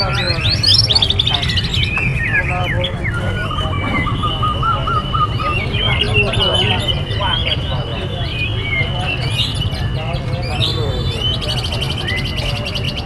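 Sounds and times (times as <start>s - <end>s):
songbirds singing and chirping: 0.0s - 13.0s.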